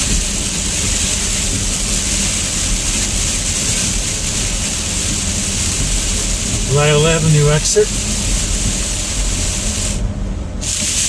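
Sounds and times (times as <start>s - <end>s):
low engine rumble: 0.0s - 11.0s
tyres hissing on wet road: 0.0s - 11.0s.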